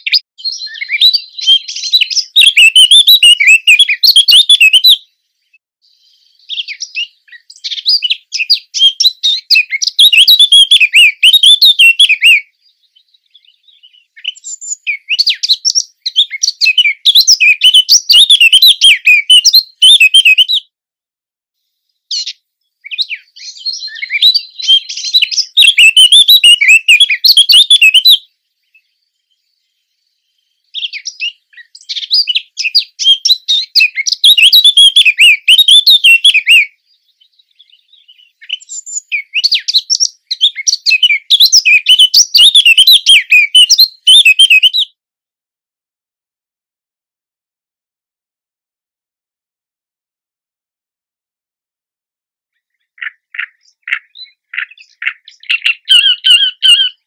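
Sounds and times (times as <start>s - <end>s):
bird warbling song: 0.0s - 20.7s, 22.0s - 45.0s, 52.6s - 57.0s.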